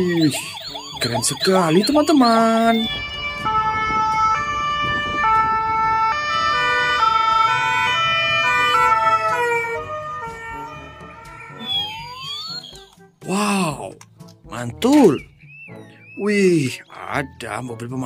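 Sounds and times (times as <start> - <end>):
ambulance siren: 0.0 - 13.5, 14.9 - 16.8.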